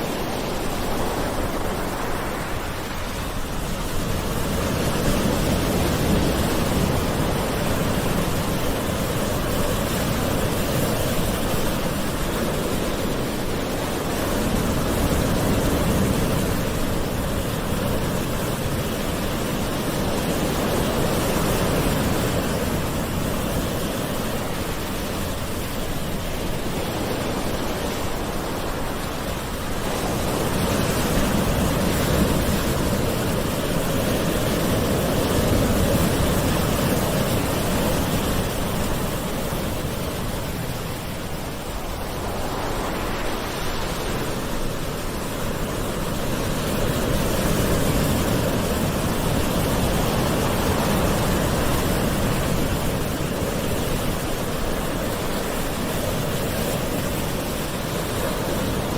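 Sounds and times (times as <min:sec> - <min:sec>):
gentle sea surf: 0:00.0 - 0:58.9.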